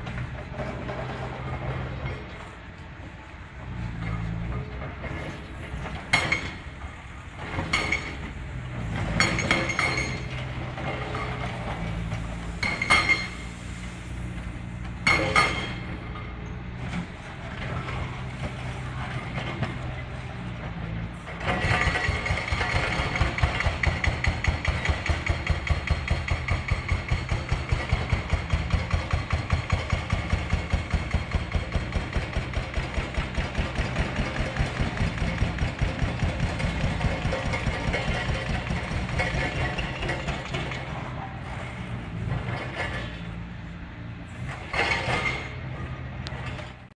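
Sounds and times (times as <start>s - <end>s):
excavator diesel engines running: 0.0s - 46.9s.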